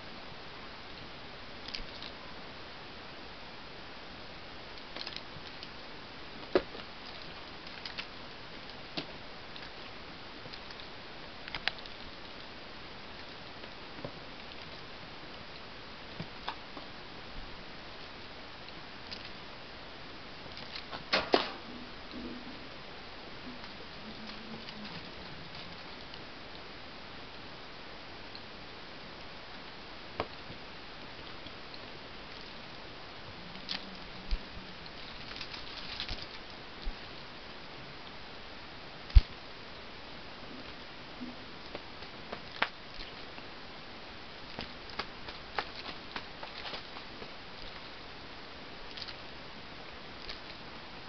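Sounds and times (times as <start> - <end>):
steady low hiss: 0.0 - 51.0.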